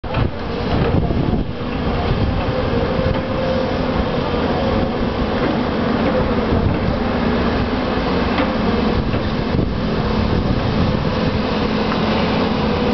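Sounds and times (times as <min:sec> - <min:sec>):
excavator diesel engines under load: 0:00.0 - 0:12.9
hydraulic whine: 0:00.0 - 0:12.9.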